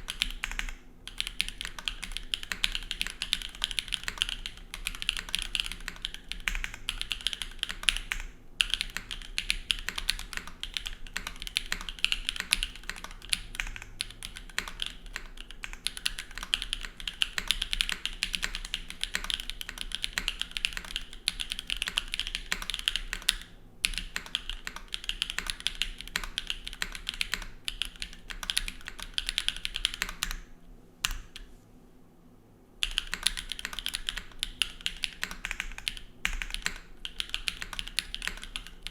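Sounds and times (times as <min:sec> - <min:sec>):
mechanical keyboard typing: 0:00.0 - 0:31.4, 0:32.8 - 0:38.9.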